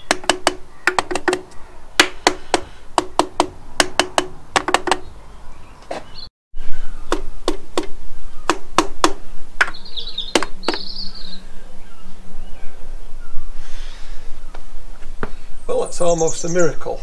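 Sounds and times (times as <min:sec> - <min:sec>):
bird chirping: 0:00.0 - 0:03.4, 0:04.6 - 0:17.0.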